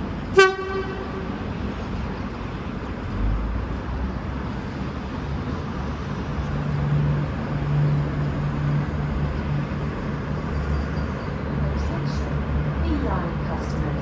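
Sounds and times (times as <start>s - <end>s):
rumbling rail noise: 0.0s - 14.0s
train engine drone: 0.0s - 14.0s.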